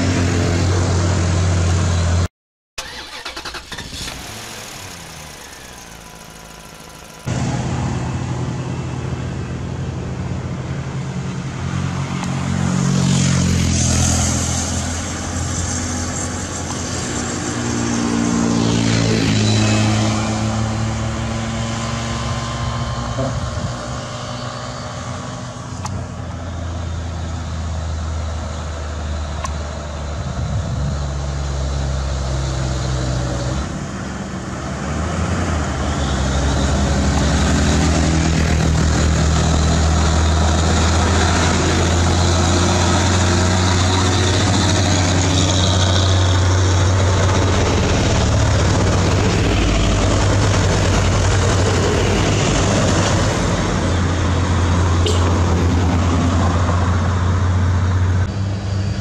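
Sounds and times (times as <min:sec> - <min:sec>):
truck diesel engine labouring: 0:00.0 - 0:12.6, 0:14.0 - 0:59.0.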